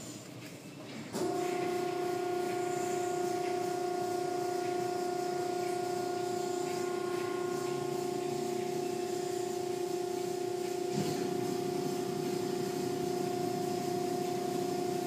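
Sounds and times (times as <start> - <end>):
car wash machinery humming: 0.0 - 15.0
water hissing on car: 1.2 - 15.0.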